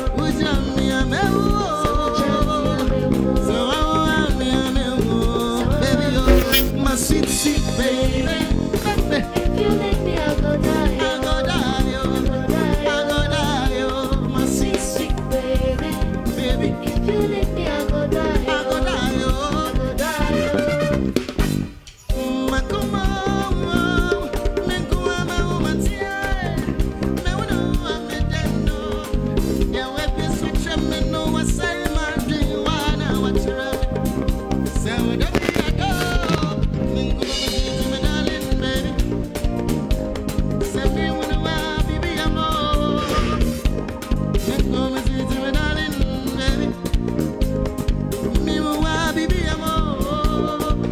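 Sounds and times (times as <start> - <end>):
man singing into a microphone: 0.0 - 21.2, 22.1 - 39.5, 40.6 - 43.7, 44.3 - 47.2, 48.2 - 50.9
electric bass guitar: 0.0 - 21.8, 22.4 - 50.9
band with keyboard and beat: 0.0 - 50.9
drums: 0.0 - 50.9.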